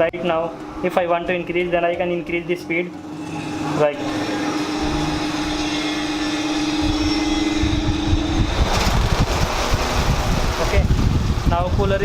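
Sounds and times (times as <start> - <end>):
air cooler fan motor speeding up: 0.0 - 12.0
steady hum: 0.0 - 12.0.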